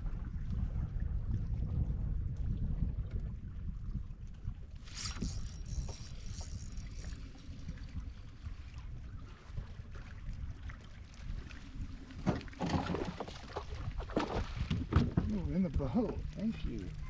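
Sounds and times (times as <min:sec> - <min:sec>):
water lapping against a hull: 0:00.0 - 0:17.0
wind rumbling on microphone: 0:00.0 - 0:17.0.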